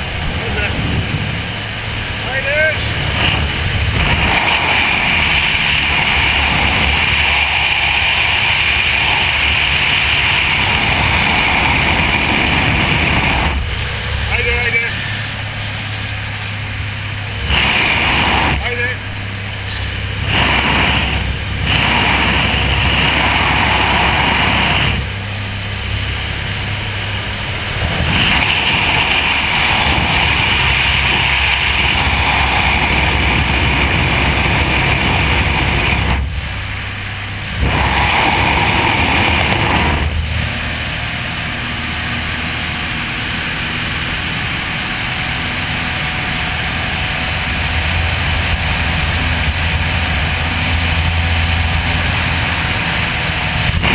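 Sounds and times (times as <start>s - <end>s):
propeller engine drone: 0.0s - 53.9s
wind rushing through open door: 0.0s - 53.9s.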